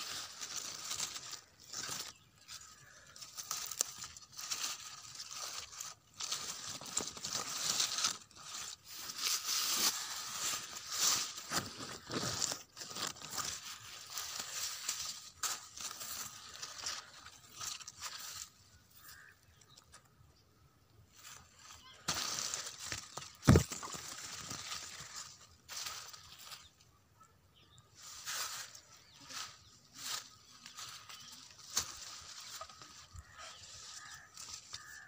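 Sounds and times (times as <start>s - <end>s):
plant leaves rustling: 0.0s - 19.8s, 21.1s - 27.0s, 27.8s - 35.0s.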